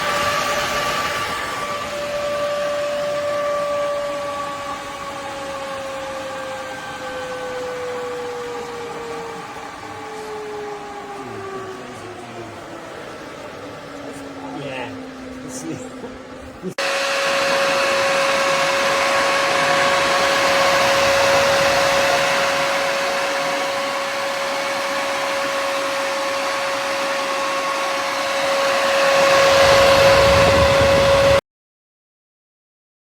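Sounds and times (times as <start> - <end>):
duct fan air rush and whine: 0.0 - 31.4.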